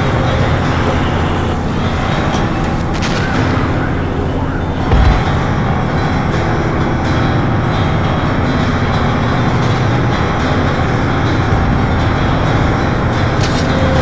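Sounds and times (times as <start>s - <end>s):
tank engine running: 0.0s - 14.0s.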